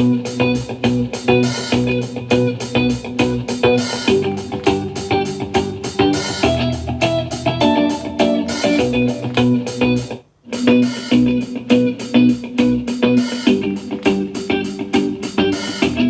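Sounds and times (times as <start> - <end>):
hip-hop beat through speaker: 0.0 - 10.2, 12.9 - 16.0.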